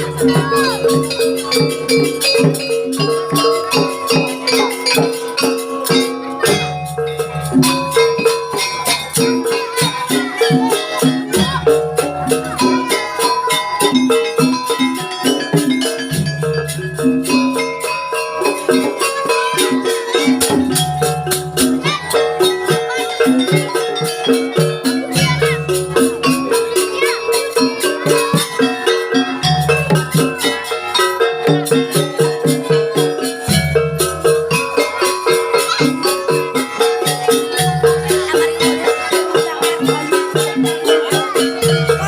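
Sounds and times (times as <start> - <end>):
fast percussion beat: 0.0 - 42.0
gamelan-style metal tones: 0.0 - 42.0.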